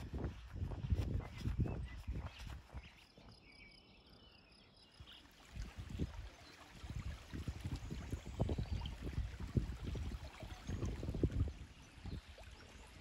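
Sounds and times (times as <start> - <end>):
wind buffeting microphone: 0.0 - 3.0, 5.5 - 13.0.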